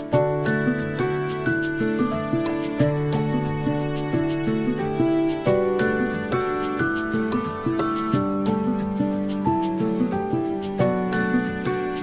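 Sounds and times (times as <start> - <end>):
gentle instrumental music with chimes: 0.0 - 12.0.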